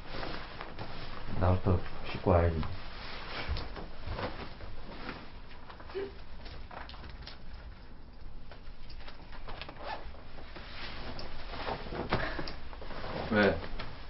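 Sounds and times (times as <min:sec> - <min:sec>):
clothes rustling: 0:00.0 - 0:07.5, 0:08.6 - 0:14.0.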